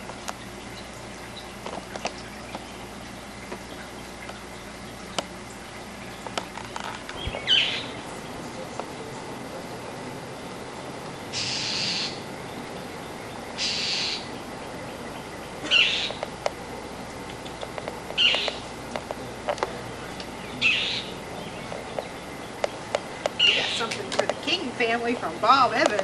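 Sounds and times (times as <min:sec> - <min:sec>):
bird calling: 0:00.0 - 0:09.7, 0:10.4 - 0:26.0.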